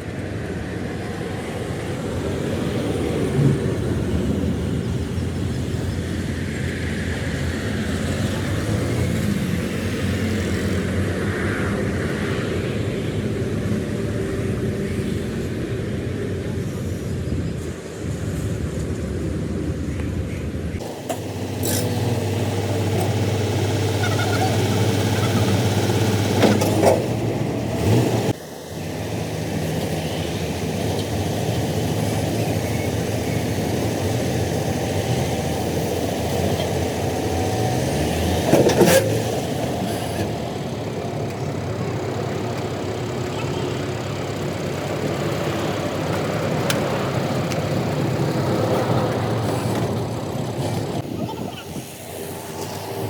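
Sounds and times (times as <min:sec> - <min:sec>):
vehicle engines running: 0:00.0 - 0:53.0
vehicles passing: 0:00.0 - 0:53.0.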